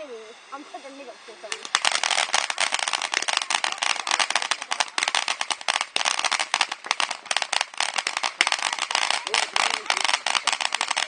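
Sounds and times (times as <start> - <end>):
firework fountain hissing and crackling: 0.0 - 11.0.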